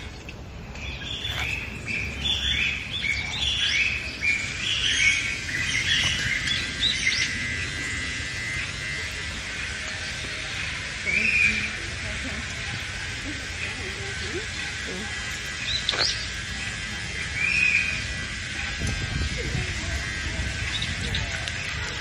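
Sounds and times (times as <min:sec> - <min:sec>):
bird calling high notes: 0:00.8 - 0:21.8.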